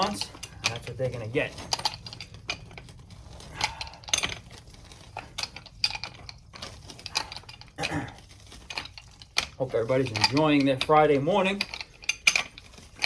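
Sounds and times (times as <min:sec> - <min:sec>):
wrenches clinking on metal pipe: 0:00.0 - 0:13.0.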